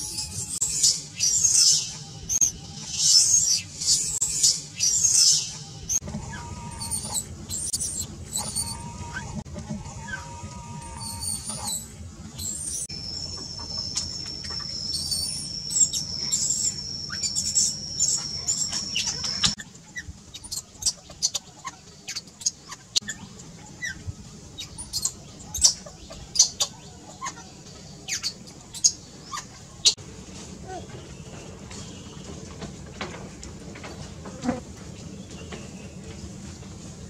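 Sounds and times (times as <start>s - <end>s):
animal chirps and squeaks: 0.0s - 30.0s.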